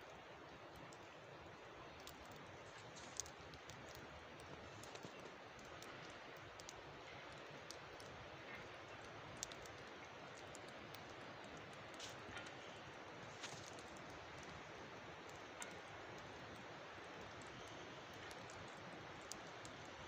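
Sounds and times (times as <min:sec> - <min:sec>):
faint outdoor hiss: 0:00.0 - 0:20.0
light ticks and clicks: 0:00.0 - 0:20.0.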